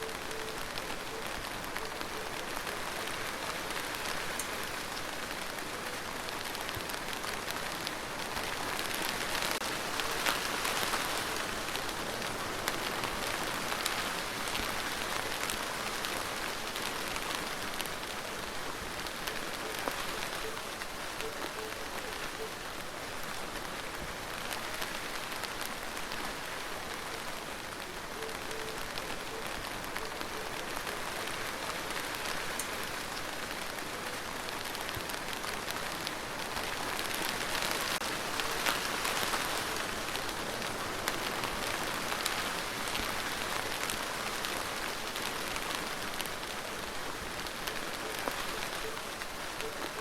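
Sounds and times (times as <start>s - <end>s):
rain pattering on hard surface: 0.0s - 50.0s.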